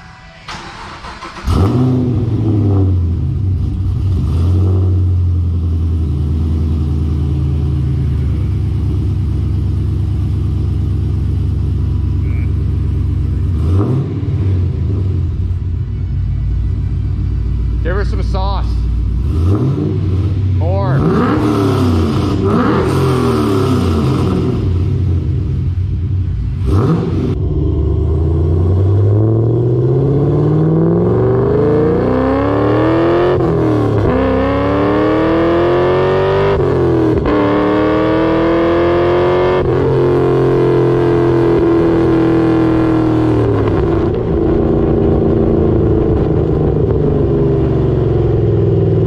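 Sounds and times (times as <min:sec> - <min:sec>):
car engine revving and accelerating: 0:00.5 - 0:11.0, 0:12.2 - 0:15.6, 0:19.0 - 0:49.0.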